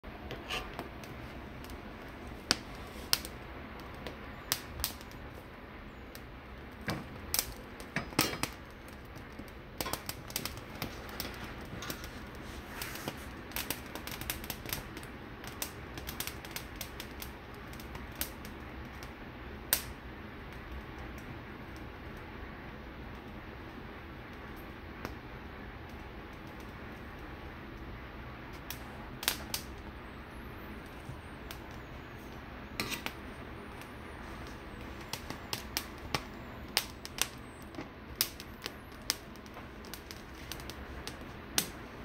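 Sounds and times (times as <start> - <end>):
low background noise: 0.0 - 42.0.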